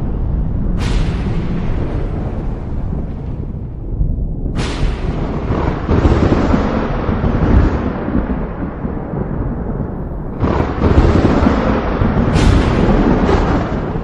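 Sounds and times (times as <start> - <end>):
thunder rumbling: 0.0 - 14.0
thunderclap: 0.0 - 14.0.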